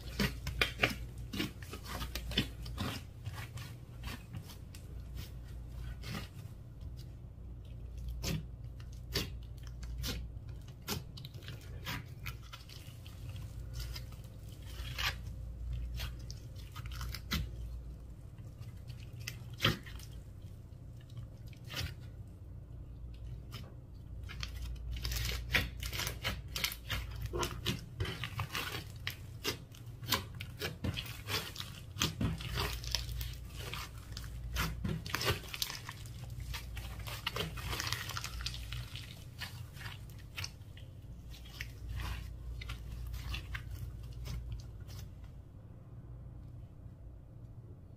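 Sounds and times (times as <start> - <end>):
slime being kneaded: 0.0 - 22.2, 23.0 - 45.2.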